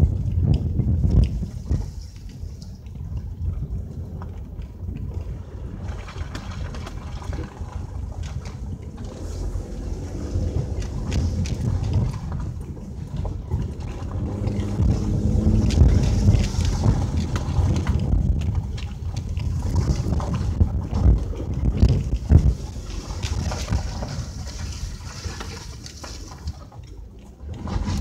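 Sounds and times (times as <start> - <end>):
rumble of travel on dirt lane: 0.0 - 28.0
wind buffeting microphone: 0.0 - 28.0.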